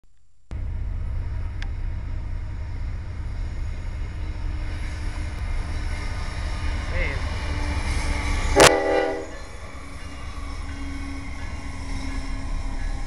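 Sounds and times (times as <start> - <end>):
freight train rumbling past: 0.5 - 13.0.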